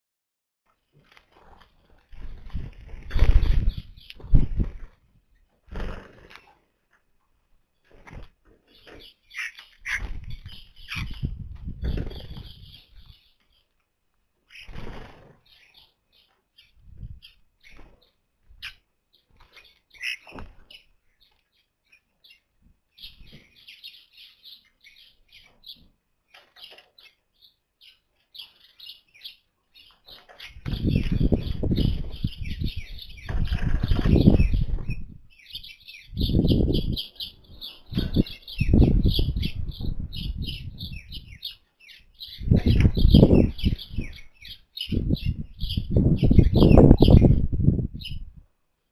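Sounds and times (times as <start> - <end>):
birds chirping: 2.1 - 4.8, 7.7 - 13.8, 14.4 - 48.4.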